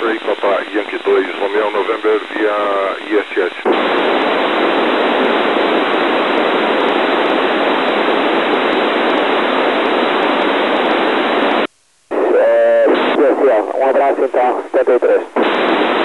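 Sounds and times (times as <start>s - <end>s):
radio static hiss: 0.0s - 16.0s
steady radio tone: 0.0s - 16.0s.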